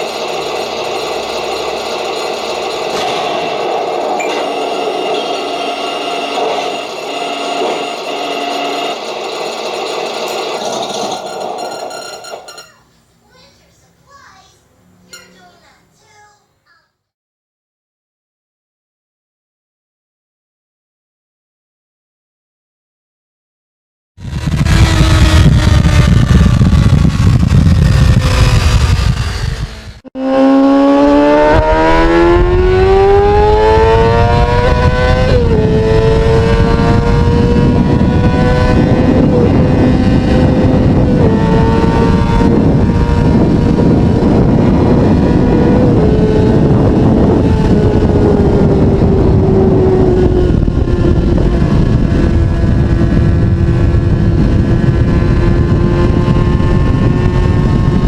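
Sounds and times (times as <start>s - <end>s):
motorcycle engine accelerating: 0.0s - 12.7s, 24.2s - 58.0s.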